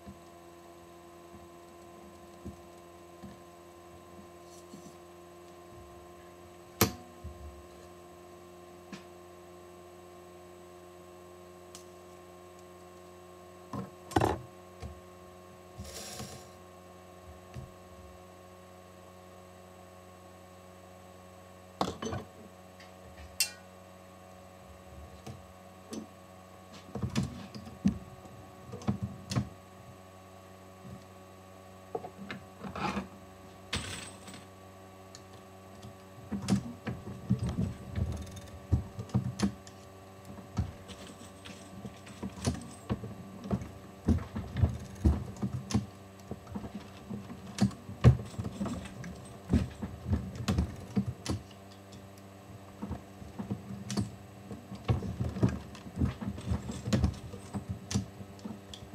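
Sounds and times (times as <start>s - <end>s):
steady hum: 0.0s - 58.9s.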